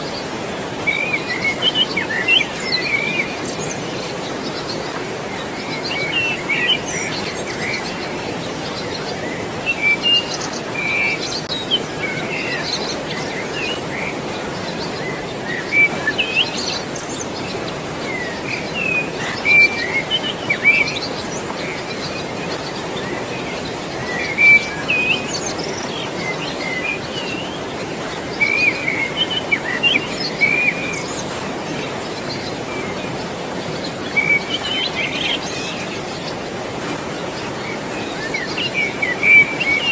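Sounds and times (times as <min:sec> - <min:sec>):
flowing water rushing: 0:00.0 - 0:39.9
small birds chirping: 0:00.0 - 0:39.9.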